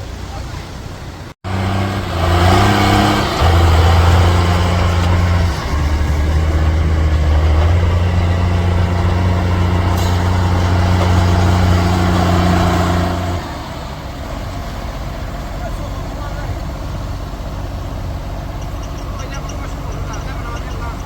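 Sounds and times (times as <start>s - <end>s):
vehicle engine running loudly: 1.4s - 21.0s.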